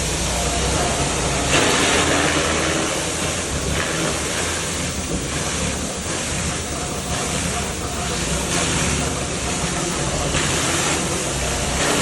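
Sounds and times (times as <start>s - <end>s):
spray hissing on concrete: 0.0s - 12.0s.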